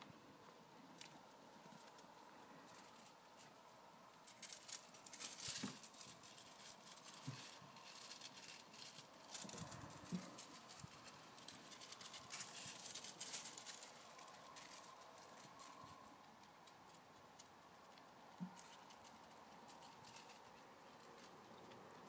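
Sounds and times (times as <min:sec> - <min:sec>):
puppy paws pattering on gravel: 0:01.0 - 0:22.0.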